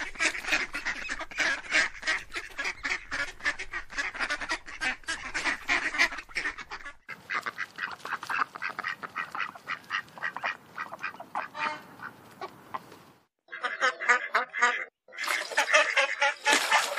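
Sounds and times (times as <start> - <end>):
geese honking: 0.0 - 12.9, 13.5 - 16.9.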